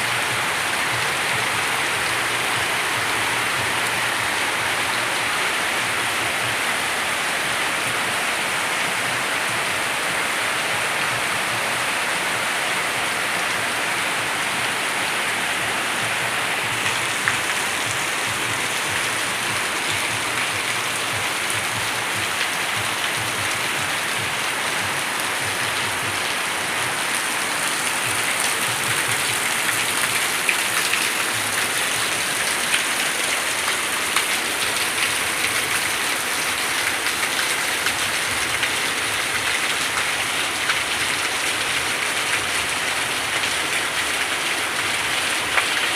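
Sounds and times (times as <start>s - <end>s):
heavy rain pattering: 0.0s - 45.9s
louder raindrops: 0.0s - 45.9s.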